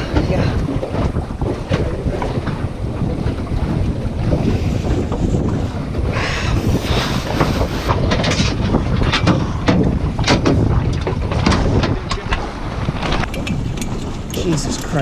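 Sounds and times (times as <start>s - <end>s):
water rushing along boat hull: 0.0s - 15.0s
water splashing: 0.0s - 15.0s
wind buffeting microphone: 0.0s - 15.0s.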